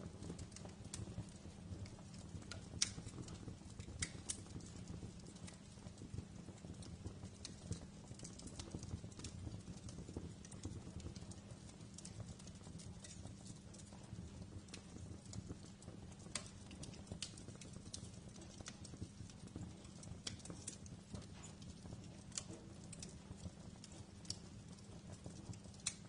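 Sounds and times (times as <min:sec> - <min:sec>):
fire crackling and popping: 0:00.0 - 0:26.0
fire flames rumbling: 0:00.0 - 0:26.0.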